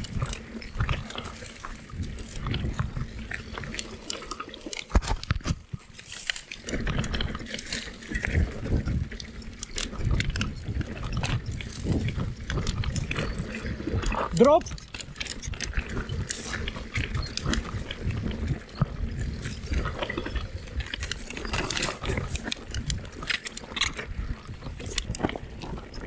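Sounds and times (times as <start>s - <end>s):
bike clattering and rattling: 0.0s - 26.0s.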